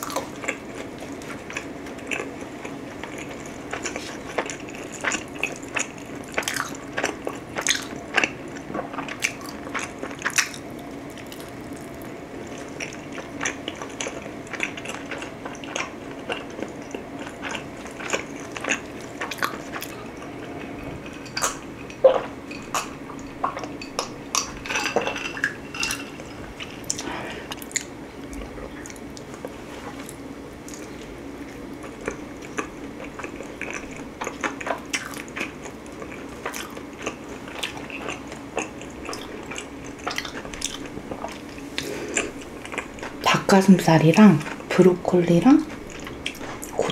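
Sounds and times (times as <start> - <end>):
chewing and biting pizza: 0.0 - 24.6, 26.6 - 43.2, 45.6 - 46.9.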